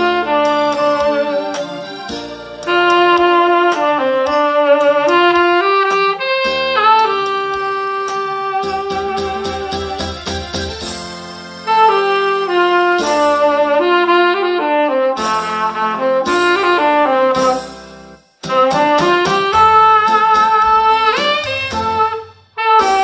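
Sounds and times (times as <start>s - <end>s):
keyboard chords and bass: 0.0s - 23.0s
saxophone solo melody: 0.0s - 23.0s.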